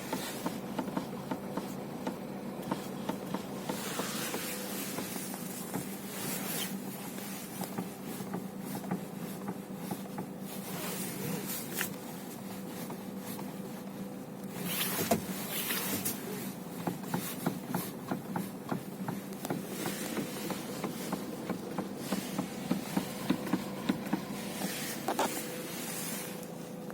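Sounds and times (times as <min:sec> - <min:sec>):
steering knocking: 0:00.0 - 0:11.8, 0:12.4 - 0:26.6
steady hum: 0:00.0 - 0:26.9.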